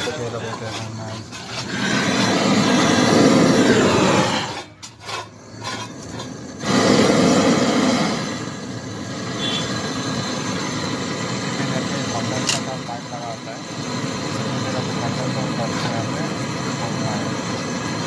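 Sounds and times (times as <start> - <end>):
brazing torch flame roaring: 0.0 - 18.0.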